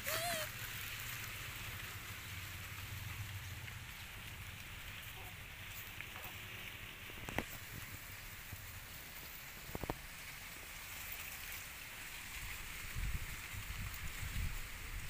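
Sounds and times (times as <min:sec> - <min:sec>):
steady outdoor hiss: 0:00.0 - 0:15.0
small clicks and rustles: 0:00.5 - 0:15.0.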